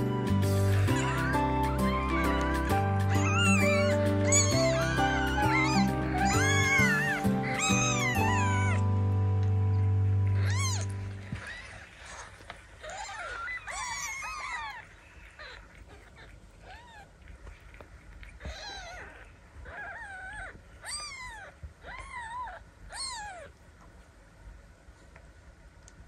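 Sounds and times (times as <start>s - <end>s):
kittens mewing: 0.0s - 9.1s, 10.2s - 23.6s.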